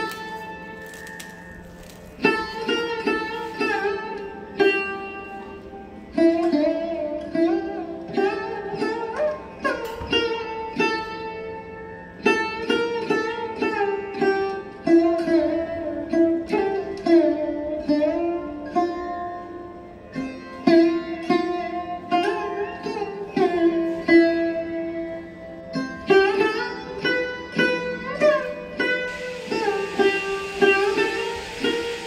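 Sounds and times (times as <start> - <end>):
plucked string notes: 0.0 - 32.0.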